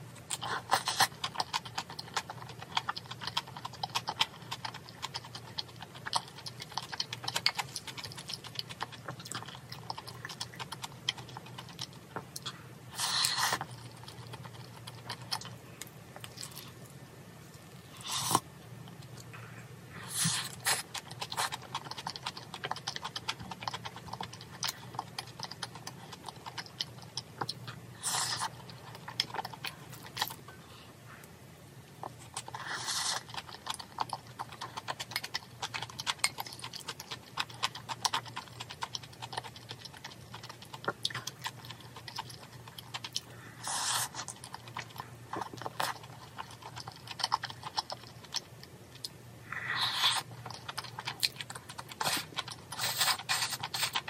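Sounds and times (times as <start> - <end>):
faint low hum: 0.0 - 54.0
wet chewing: 0.2 - 16.9, 20.0 - 30.5, 32.0 - 54.0.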